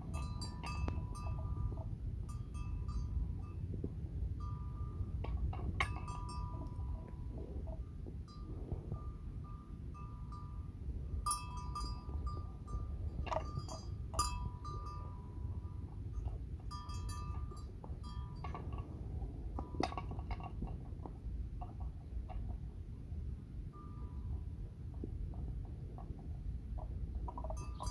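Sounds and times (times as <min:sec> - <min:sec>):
livestock bell clinking: 0:00.0 - 0:22.5, 0:23.6 - 0:27.9
low steady rumble: 0:00.0 - 0:27.9.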